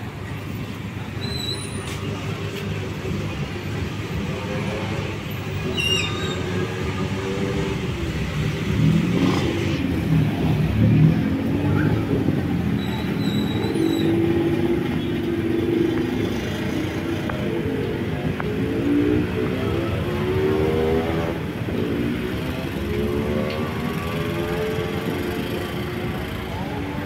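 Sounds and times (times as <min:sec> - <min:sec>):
motorcycle and minibus engines passing: 0:02.1 - 0:27.0.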